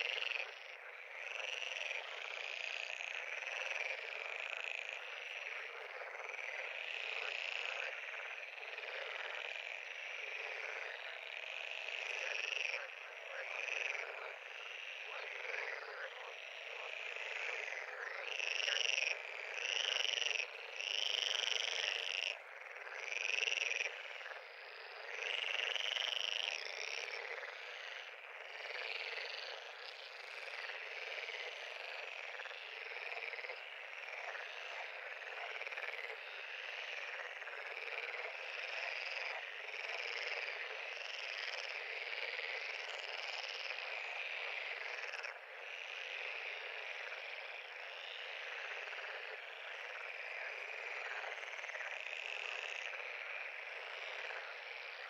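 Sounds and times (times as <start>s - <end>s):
frogs calling: 0.0s - 55.0s.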